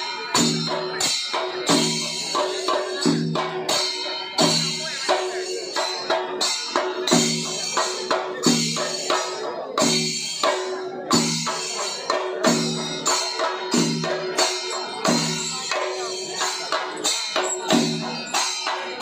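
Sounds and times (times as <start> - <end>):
jingling tambourine: 0.0 - 19.0
percussion music: 0.0 - 19.0.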